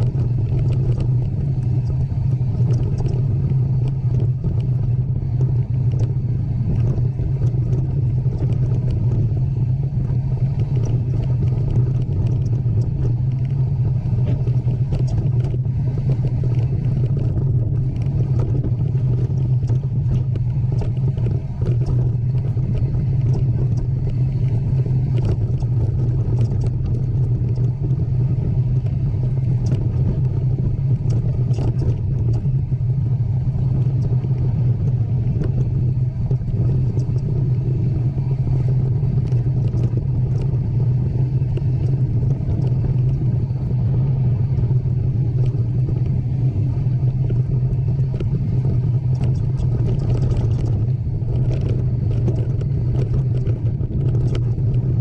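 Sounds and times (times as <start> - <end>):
light clicks and rattles: 0.0 - 55.0
steady low rumble: 0.0 - 55.0.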